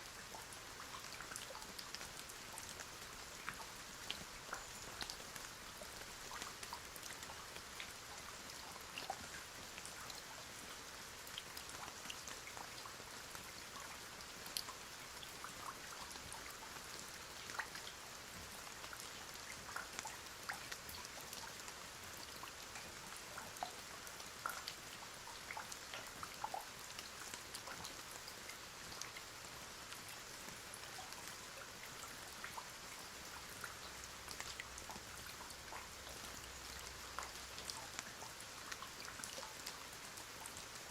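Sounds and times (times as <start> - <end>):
rain hiss: 0.0 - 40.9
raindrops ticking: 0.3 - 10.5, 11.2 - 40.9.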